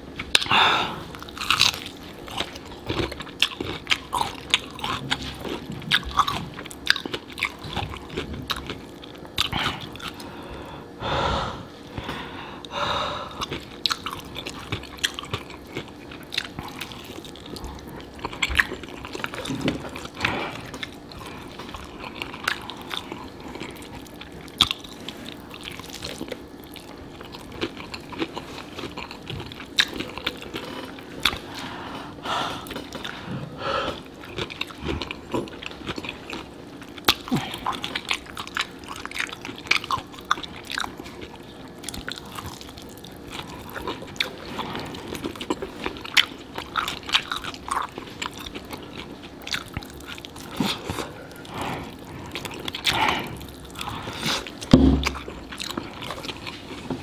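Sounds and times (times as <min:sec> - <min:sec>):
biting and chewing chicken: 0:00.0 - 0:11.0, 0:11.8 - 0:57.0.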